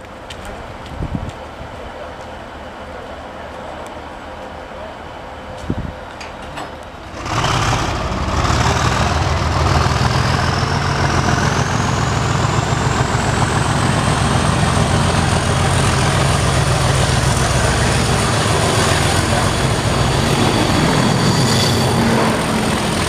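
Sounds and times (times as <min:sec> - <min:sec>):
diesel locomotive engine rumbling: 0:00.0 - 0:23.0.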